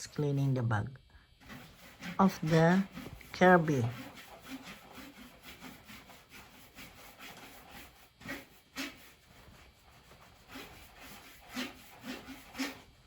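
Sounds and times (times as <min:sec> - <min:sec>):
scrubbing strokes on cloth bag: 0:01.4 - 0:13.0.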